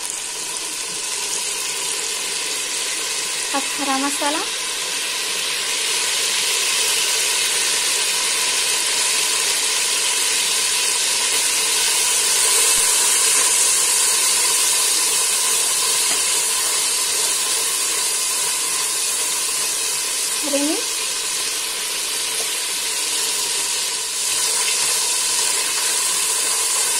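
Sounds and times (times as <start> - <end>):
hot oil sizzling in a pot: 0.0 - 26.9.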